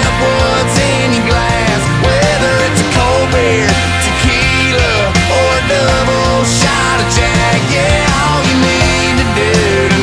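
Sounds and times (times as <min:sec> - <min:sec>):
country-rock song: 0:00.0 - 0:10.0.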